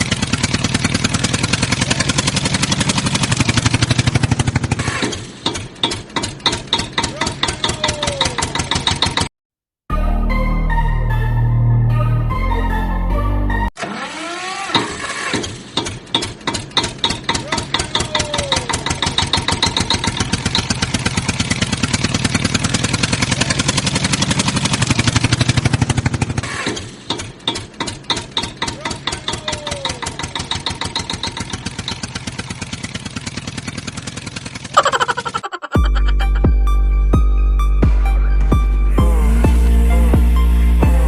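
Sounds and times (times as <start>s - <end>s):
tractor engine starting: 0.0s - 9.3s, 13.6s - 37.2s.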